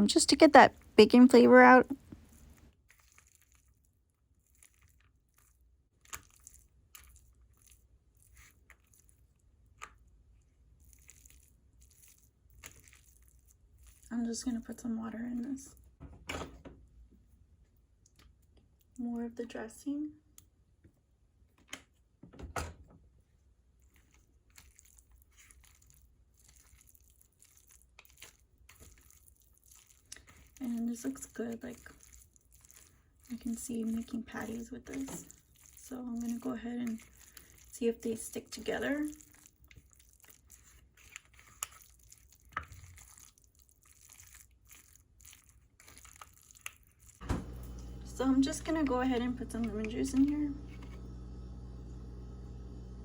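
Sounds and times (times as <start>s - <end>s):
mixture squishing in a bowl: 0.0s - 16.0s, 23.2s - 53.0s
soft scraping of stirring: 2.1s - 15.9s, 23.8s - 53.0s.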